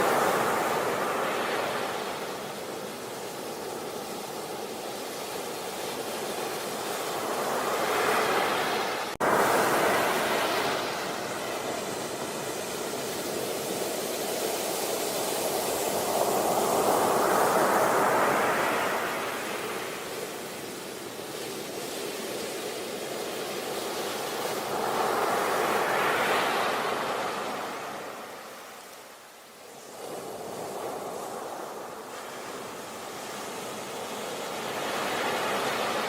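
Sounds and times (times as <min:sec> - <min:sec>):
sea waves breaking on shore: 0:00.0 - 0:36.0.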